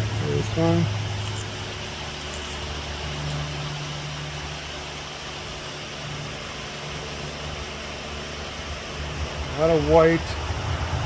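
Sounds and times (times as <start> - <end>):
even hiss: 0.0 - 11.0
low machine hum: 0.0 - 11.0.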